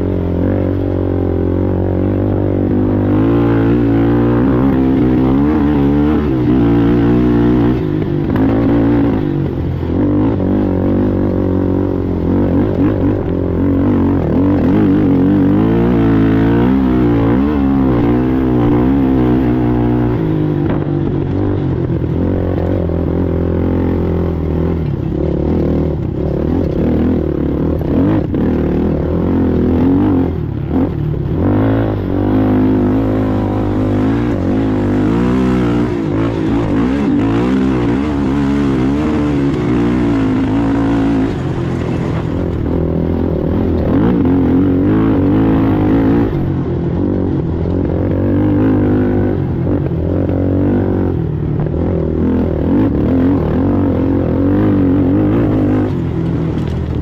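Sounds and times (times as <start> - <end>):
racing atv engine running hard: 0.0 - 57.0.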